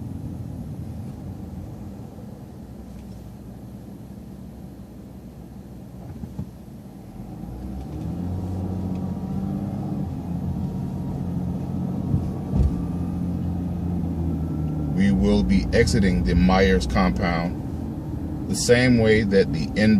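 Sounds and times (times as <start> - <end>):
bus engine running: 0.0 - 19.9.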